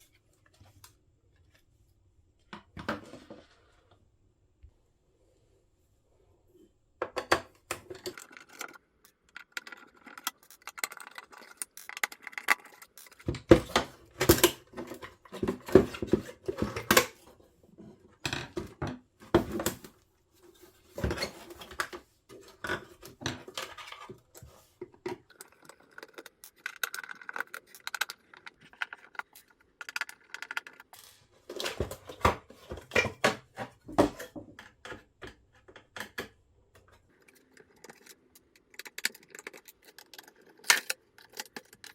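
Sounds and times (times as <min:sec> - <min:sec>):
plastic and metal parts rattling: 0:07.0 - 0:17.3, 0:18.2 - 0:41.9.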